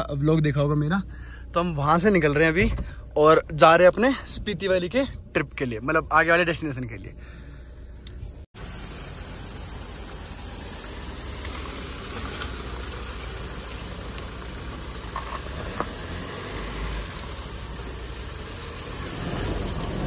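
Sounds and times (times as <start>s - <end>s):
insects shrilling: 0.0s - 20.0s.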